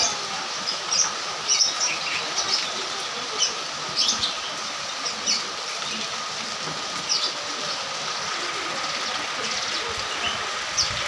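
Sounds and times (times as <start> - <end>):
rain splashing on road: 0.0 - 11.0.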